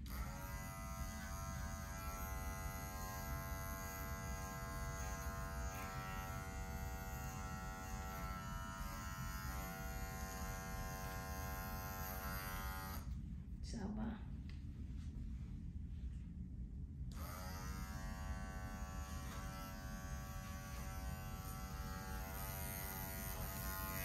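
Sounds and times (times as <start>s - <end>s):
pet clipper buzzing: 0.0s - 13.1s, 17.1s - 24.0s.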